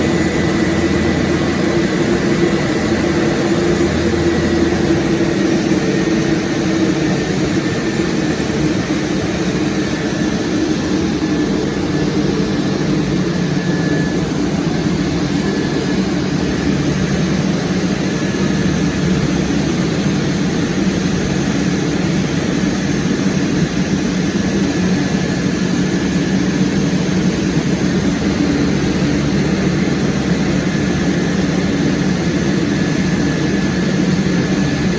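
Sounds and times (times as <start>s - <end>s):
aircraft cabin engine drone: 0.0s - 34.9s
faint high whine: 0.0s - 34.9s.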